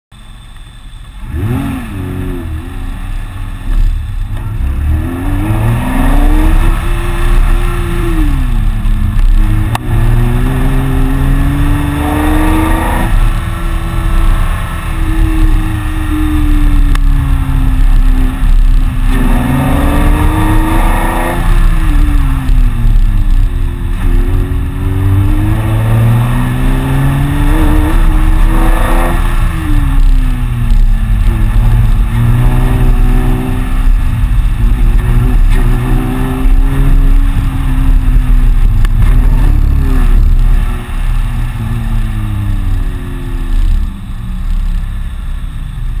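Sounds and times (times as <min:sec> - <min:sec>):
road and wind noise: 0:00.1 - 0:46.0
car engine accelerating: 0:00.2 - 0:46.0.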